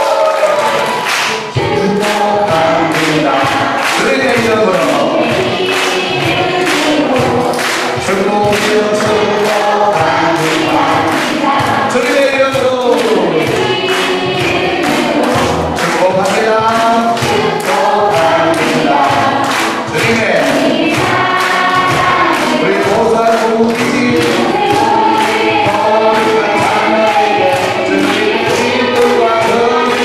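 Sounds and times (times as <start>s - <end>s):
backing music: 0.0s - 30.0s
crowd singing: 0.0s - 30.0s
hand-clapping: 0.0s - 30.0s.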